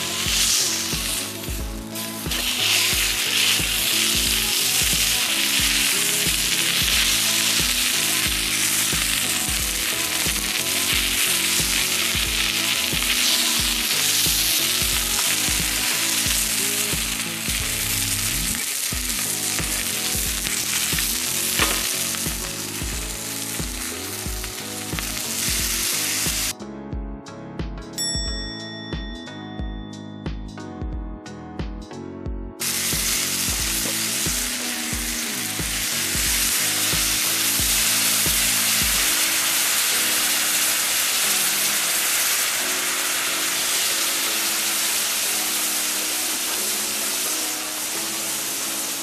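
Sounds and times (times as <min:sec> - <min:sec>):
food sizzling in a pan: 0:00.0 - 0:26.5, 0:32.6 - 0:49.0
music with steady beat: 0:00.0 - 0:49.0.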